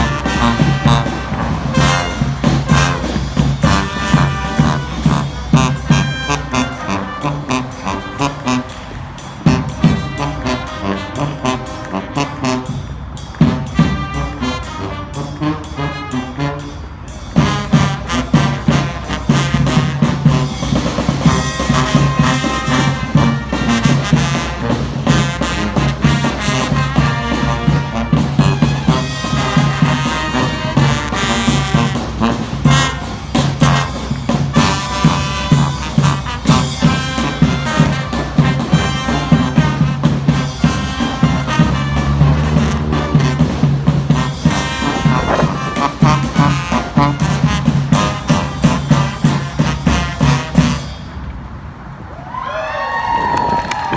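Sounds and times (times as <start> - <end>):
brass band playing swing tune: 0.0 - 51.1.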